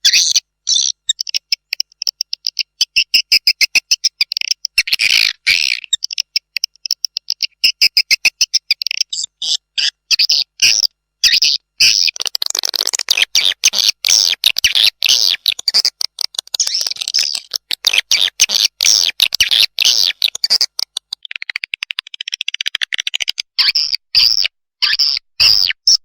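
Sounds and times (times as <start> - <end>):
swiftlet chicks twittering chirps: 0.0 - 24.0.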